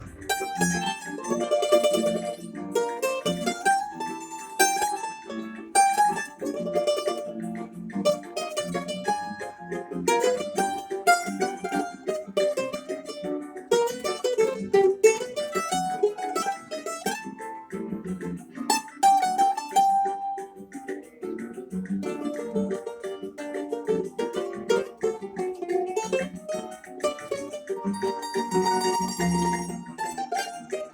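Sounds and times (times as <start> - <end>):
lower plucked notes: 0.0 - 30.9
mandolin plucked melody: 0.0 - 30.9.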